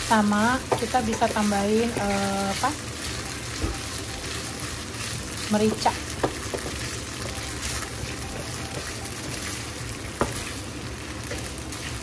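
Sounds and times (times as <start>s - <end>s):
pasta sizzling in frying pan: 0.0s - 12.0s.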